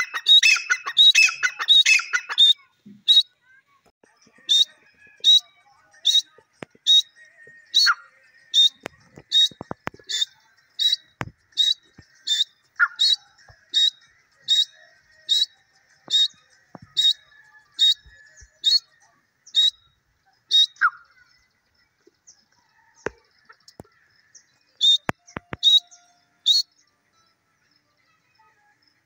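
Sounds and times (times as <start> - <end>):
bird high-pitched calls: 0.0 - 3.3, 4.2 - 18.9, 19.5 - 21.3, 22.9 - 26.8.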